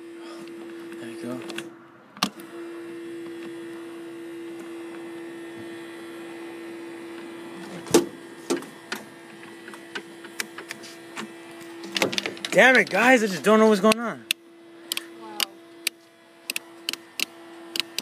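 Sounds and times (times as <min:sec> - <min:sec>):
forklift electrical hum: 0:00.0 - 0:18.0.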